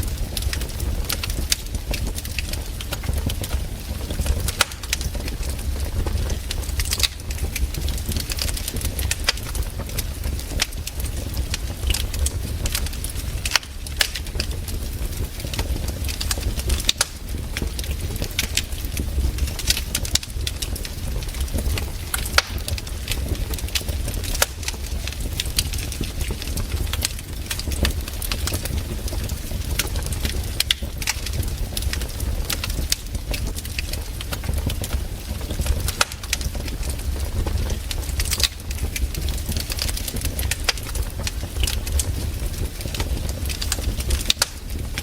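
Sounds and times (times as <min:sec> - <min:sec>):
campfire crackling and popping: 0:00.0 - 0:45.0.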